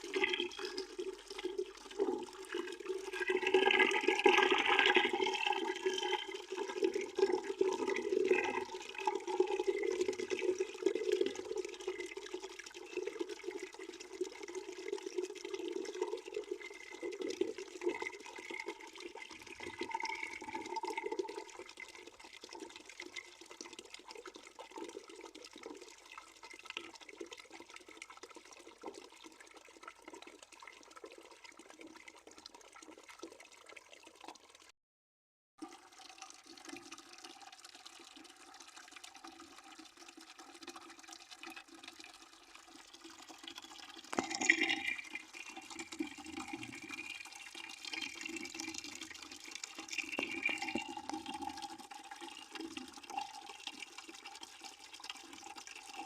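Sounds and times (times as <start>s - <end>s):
water running into a bucket: 0.0s - 34.7s, 35.6s - 56.0s.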